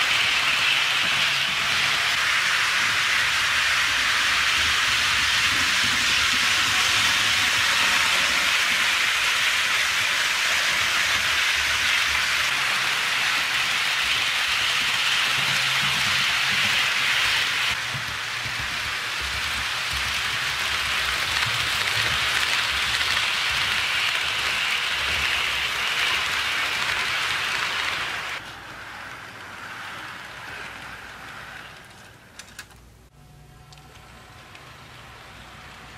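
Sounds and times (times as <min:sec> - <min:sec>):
model train wheels rolling on rail: 0:00.0 - 0:35.9.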